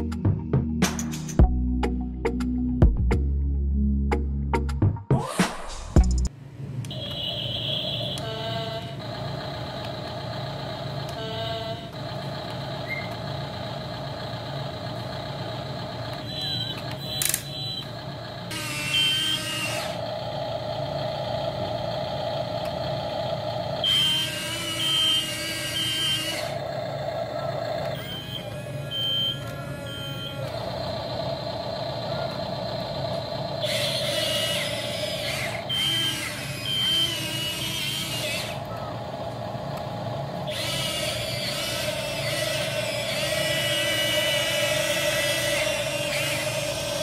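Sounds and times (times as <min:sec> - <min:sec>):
simulated engine hum: 0:05.6 - 0:47.0.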